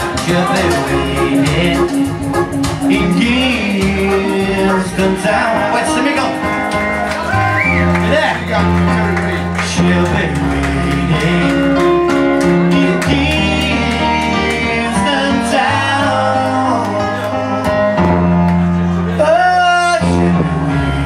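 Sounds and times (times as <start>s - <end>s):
man singing: 0.0s - 6.5s, 8.1s - 18.2s, 19.0s - 21.0s
bass line: 0.0s - 21.0s
keyboards: 0.0s - 21.0s.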